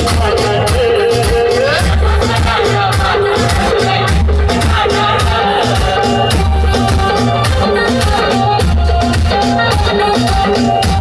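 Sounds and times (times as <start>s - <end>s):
dance music with heavy bass beat: 0.0s - 11.0s.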